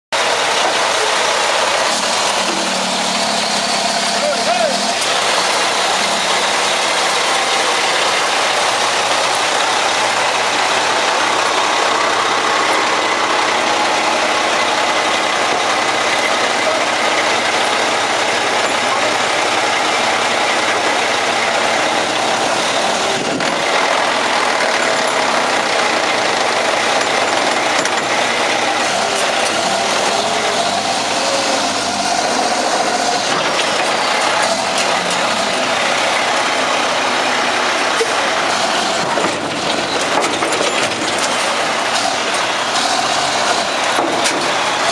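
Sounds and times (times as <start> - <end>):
truck engine idling: 0.1 - 44.9.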